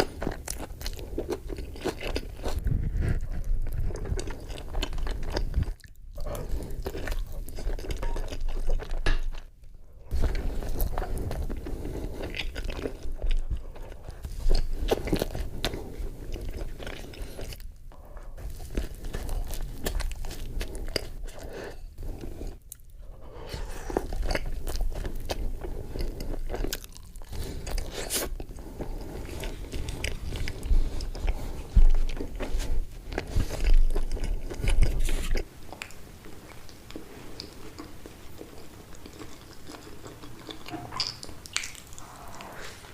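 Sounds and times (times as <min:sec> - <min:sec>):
biting and chewing food: 0:00.0 - 0:42.9.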